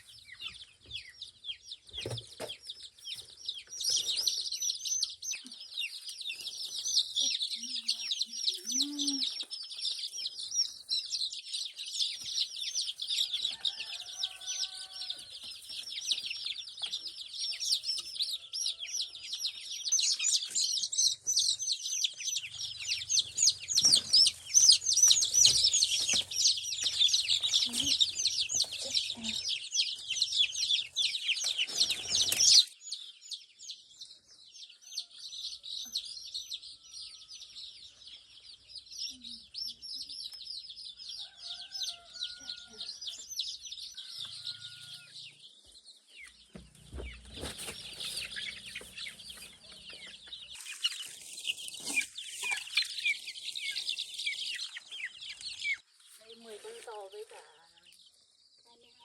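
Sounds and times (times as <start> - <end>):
chickens cheeping and clucking: 0.0 - 59.0.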